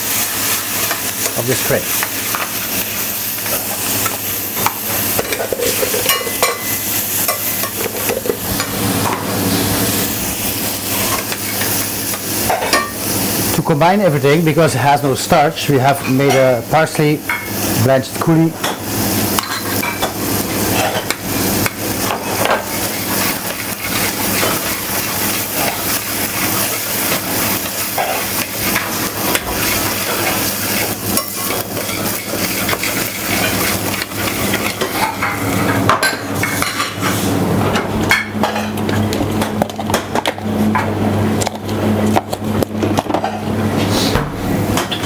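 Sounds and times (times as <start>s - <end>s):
food sizzling: 0.0s - 45.0s.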